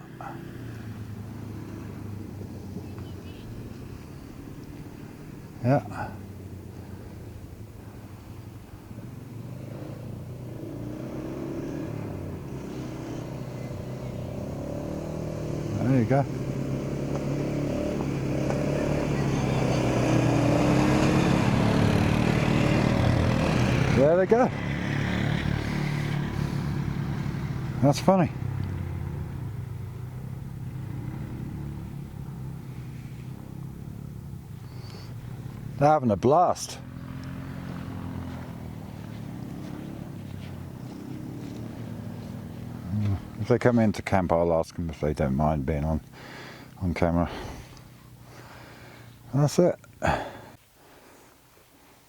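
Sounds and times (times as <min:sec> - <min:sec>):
vehicle engine approaching: 0:00.0 - 0:50.6.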